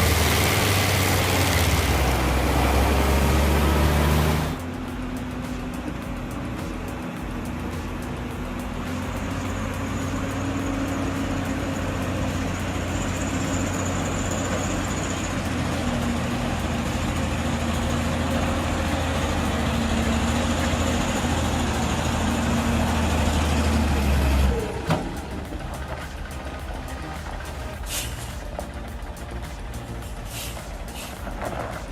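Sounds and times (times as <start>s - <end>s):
heavy machine engine running: 0.0s - 31.9s.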